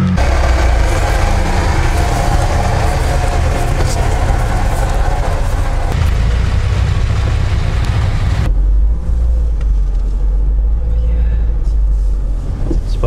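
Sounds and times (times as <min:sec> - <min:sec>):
muffled engine drone in cabin: 0:00.0 - 0:13.0
off-road car engines running: 0:00.0 - 0:13.0.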